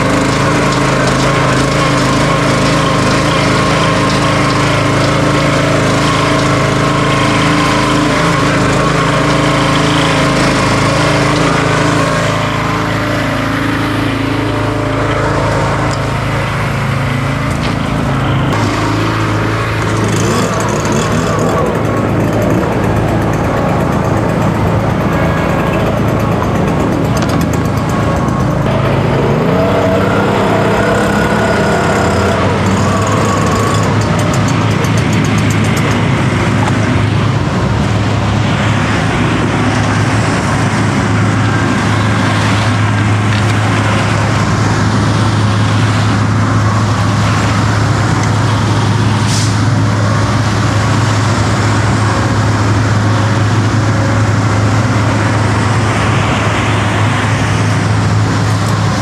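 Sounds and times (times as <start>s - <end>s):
heavy engine running: 0.0s - 59.0s
machinery noise: 0.0s - 59.0s.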